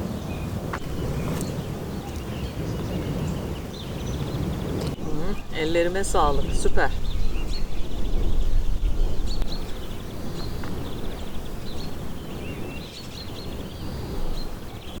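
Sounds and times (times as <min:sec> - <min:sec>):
low outdoor rumble: 0:00.0 - 0:15.0
small birds chirping and trilling: 0:00.0 - 0:15.0.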